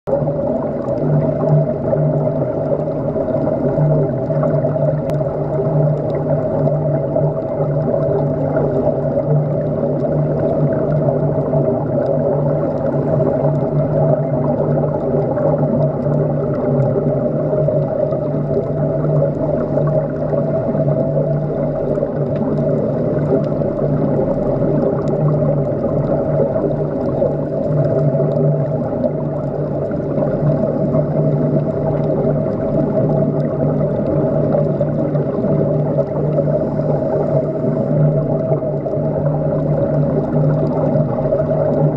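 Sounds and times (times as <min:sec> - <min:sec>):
muffled watery hiss: 0:00.1 - 0:41.9
underwater mechanical hum: 0:00.1 - 0:41.9.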